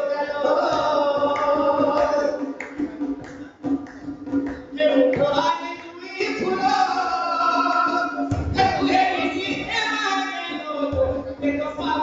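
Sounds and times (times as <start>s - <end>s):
man singing folk song: 0.0s - 2.6s, 4.6s - 12.0s.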